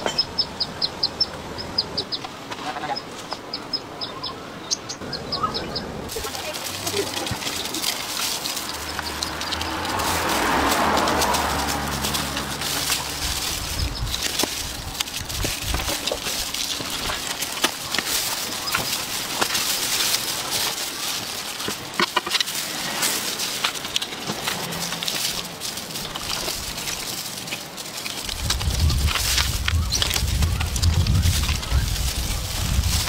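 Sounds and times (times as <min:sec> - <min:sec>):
crisp skin crackling and crunching: 0:06.1 - 0:33.0.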